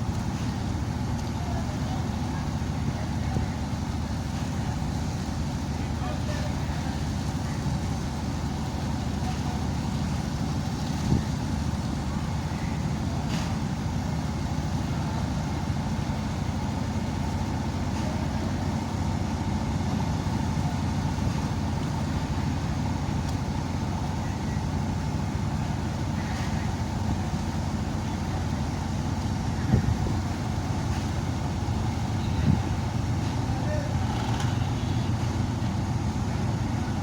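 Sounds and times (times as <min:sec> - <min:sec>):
low engine rumble: 0:00.0 - 0:37.0.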